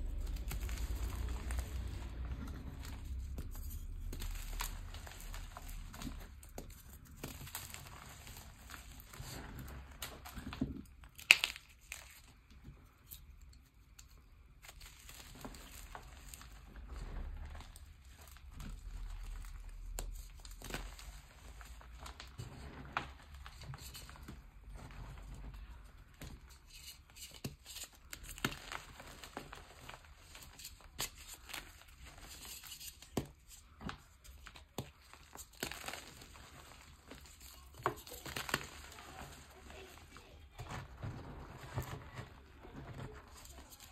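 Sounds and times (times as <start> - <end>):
chalk crunching and crumbling: 0.0 - 43.9.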